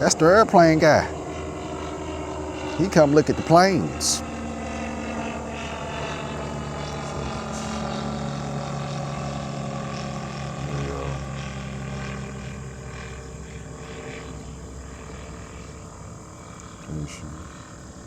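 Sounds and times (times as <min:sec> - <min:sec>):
aircraft engines droning overhead: 0:00.0 - 0:18.0.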